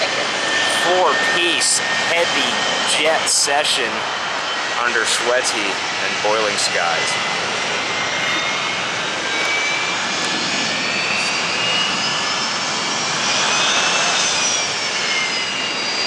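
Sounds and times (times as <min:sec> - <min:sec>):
high engine whine: 0:00.0 - 0:16.0
jet engines rushing: 0:00.0 - 0:16.0.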